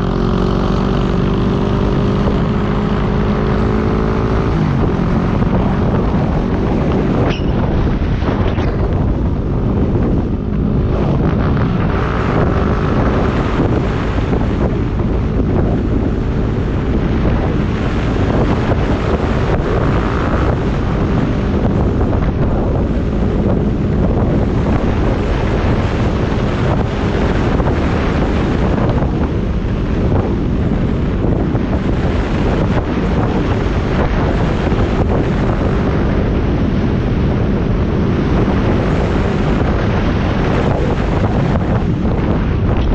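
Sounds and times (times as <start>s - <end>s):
motorcycle engine running: 0.0s - 42.9s
wind buffeting on microphone: 0.0s - 42.9s.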